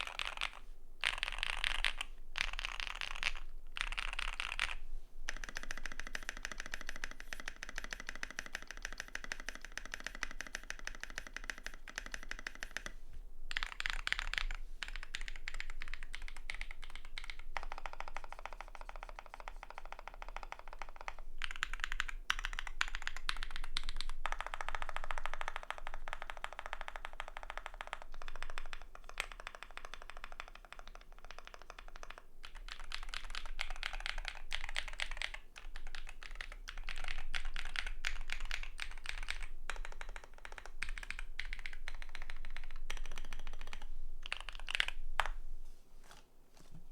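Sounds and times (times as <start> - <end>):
fast mechanical keyboard typing: 0.0 - 45.3.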